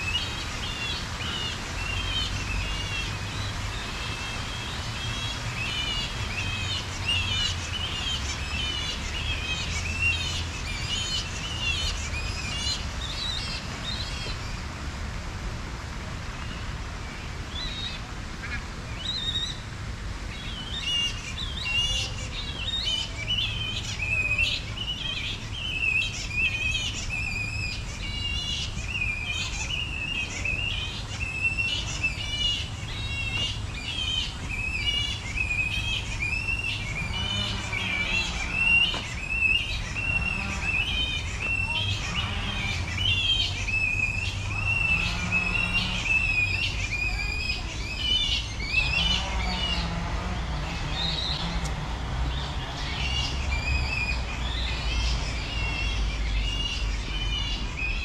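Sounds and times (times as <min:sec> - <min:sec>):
birds chirping: 0:00.0 - 0:14.7, 0:16.3 - 0:58.0.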